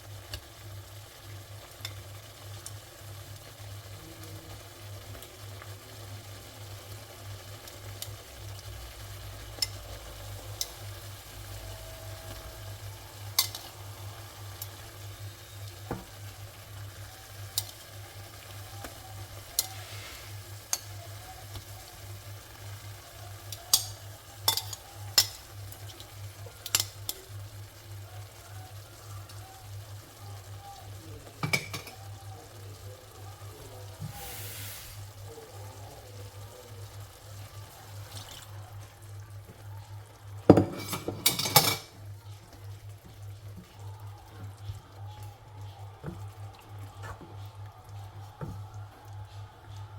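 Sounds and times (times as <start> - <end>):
food sizzling in a pan: 0.0 - 49.9.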